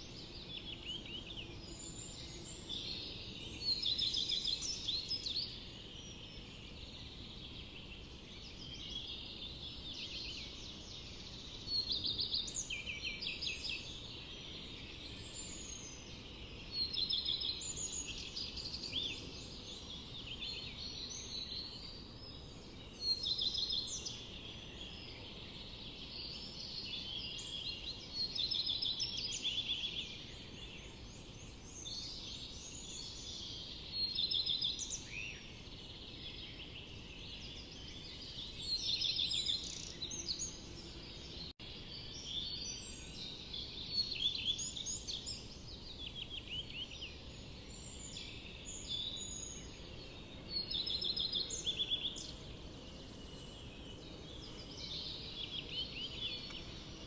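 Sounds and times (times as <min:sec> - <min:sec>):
low background hiss: 0:00.0 - 0:57.0
soft bird chirps: 0:00.0 - 0:57.0
songbirds singing: 0:00.0 - 0:57.0.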